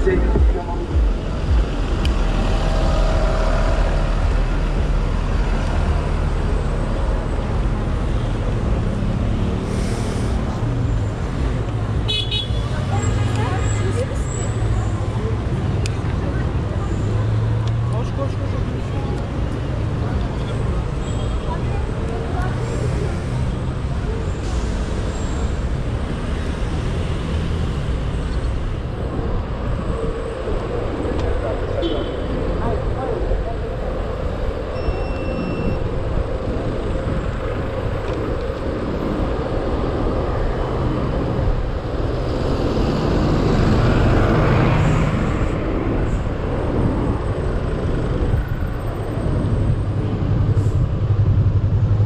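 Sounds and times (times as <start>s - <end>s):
street traffic: 0.0s - 52.0s
wind and road rumble: 0.0s - 52.0s.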